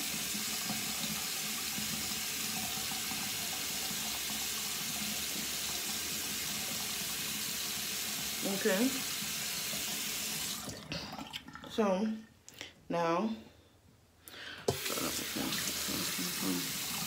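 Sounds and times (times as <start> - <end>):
faucet running water: 0.0 - 12.3, 14.6 - 17.0.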